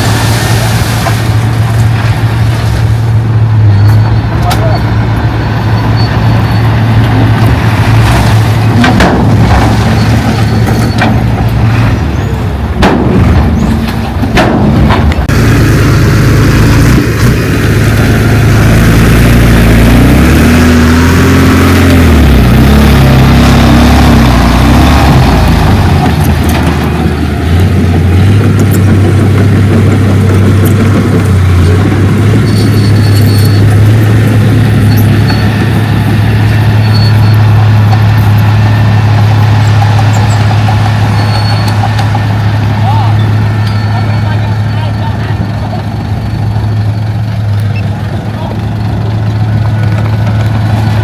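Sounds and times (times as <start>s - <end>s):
heavy diesel machinery engine: 0.0s - 51.0s.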